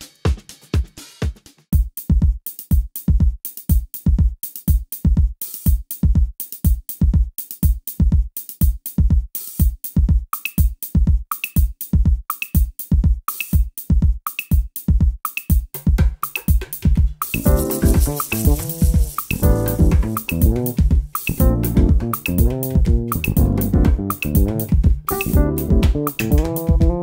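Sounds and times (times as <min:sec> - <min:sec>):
electronic drum machine beat: 0:00.0 - 0:27.0.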